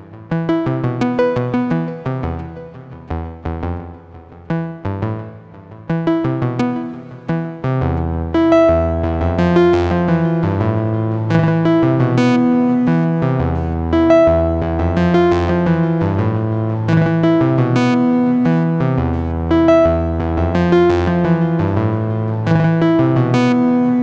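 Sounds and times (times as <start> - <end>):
synth bass line: 0.2 - 24.0.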